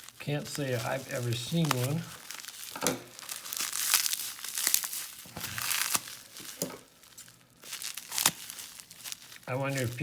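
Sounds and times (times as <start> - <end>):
packing wrap crinkling: 0.0 - 10.0.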